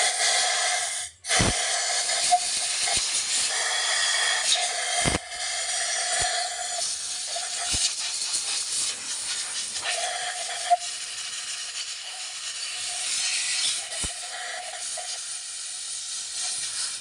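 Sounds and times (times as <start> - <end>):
compressed air blow gun hissing: 0.0 - 17.0.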